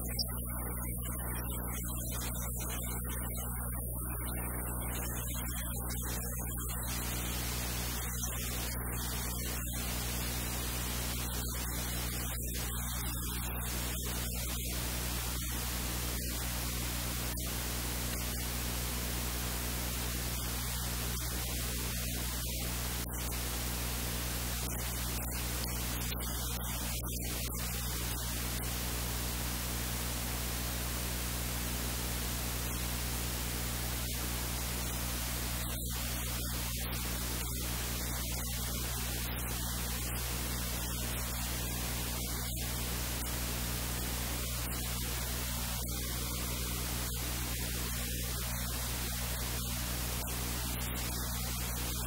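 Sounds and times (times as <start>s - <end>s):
low mains hum: 0.0s - 52.0s
recording static hiss: 0.0s - 52.0s.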